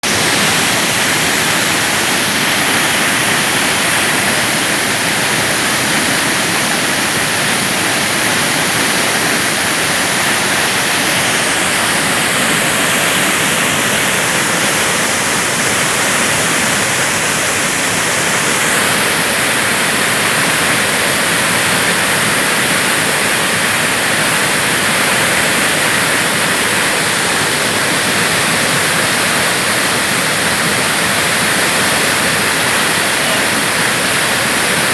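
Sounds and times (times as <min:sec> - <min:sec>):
waterfall pouring: 0:00.0 - 0:34.9.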